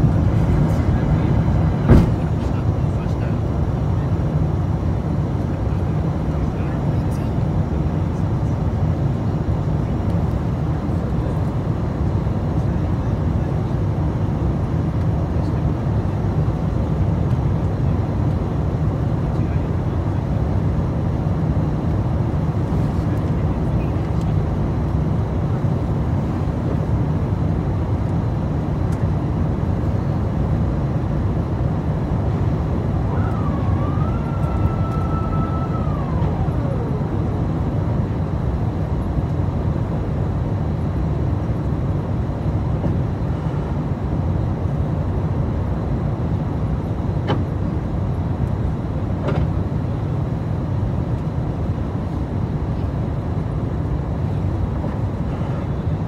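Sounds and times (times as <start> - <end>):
airplane cabin roar: 0.0 - 56.0.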